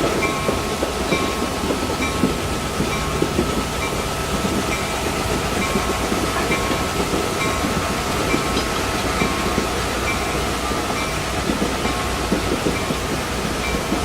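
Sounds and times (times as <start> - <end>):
train rumbling along track: 0.0 - 14.0
wheel and rail clicks: 0.0 - 14.0.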